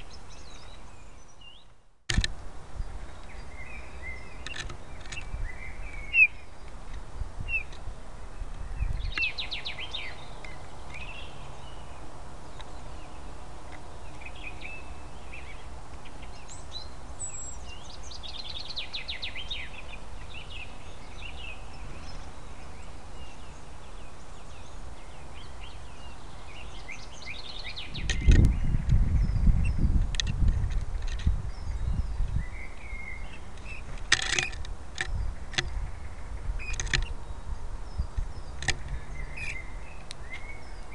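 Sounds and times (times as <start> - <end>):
small songbirds chirping: 0.0 - 40.9.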